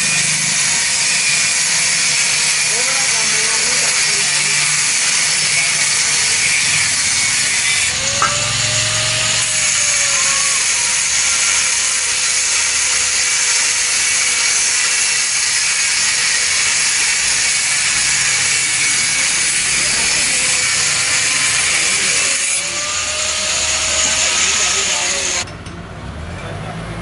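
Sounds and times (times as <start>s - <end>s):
angle grinder cutting steel: 0.0s - 25.5s.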